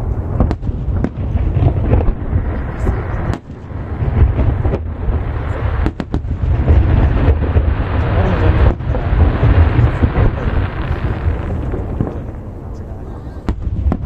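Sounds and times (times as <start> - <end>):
firework shells booming: 0.1 - 12.7, 13.4 - 14.0.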